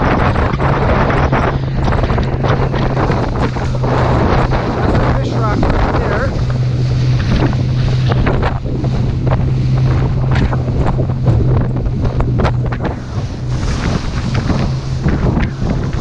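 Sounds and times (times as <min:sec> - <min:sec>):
boat motor running: 0:00.0 - 0:16.0
water slapping against hull: 0:00.0 - 0:16.0
wind buffeting microphone: 0:00.0 - 0:16.0.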